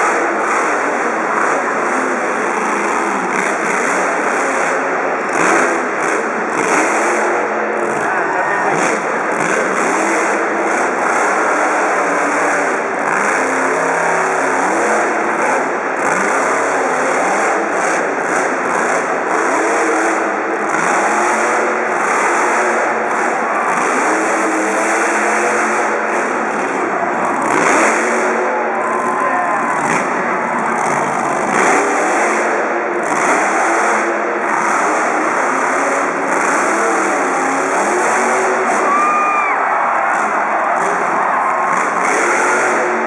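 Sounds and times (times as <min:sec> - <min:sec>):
arena crowd noise: 0:00.0 - 0:43.0
monster truck engine revving: 0:00.0 - 0:43.0.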